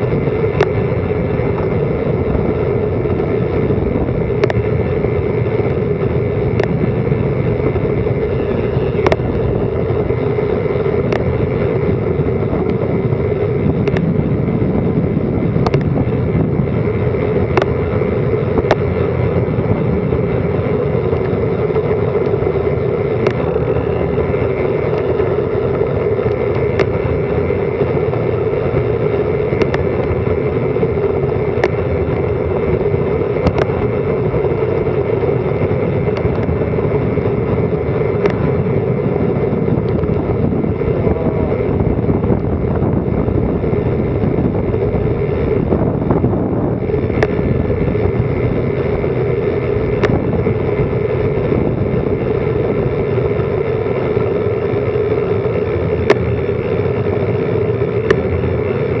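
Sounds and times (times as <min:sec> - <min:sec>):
sharp ticks: 0:00.0 - 0:14.3, 0:15.4 - 0:59.0
bicycle tyre noise: 0:00.0 - 0:59.0
wind noise: 0:00.0 - 0:59.0.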